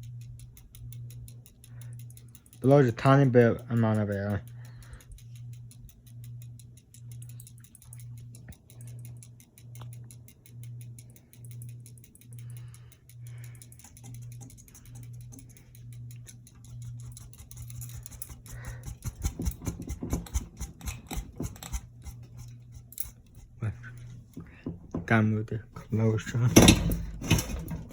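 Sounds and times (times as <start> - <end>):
fast faint ticking: 0.0 - 24.6
ceiling fan motor hum: 0.0 - 27.9.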